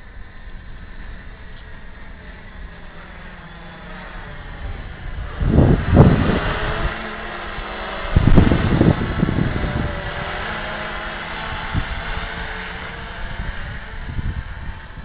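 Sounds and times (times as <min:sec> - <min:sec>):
quadcopter propellers whirring: 0:00.0 - 0:15.0
wind buffeting microphone: 0:00.0 - 0:15.0.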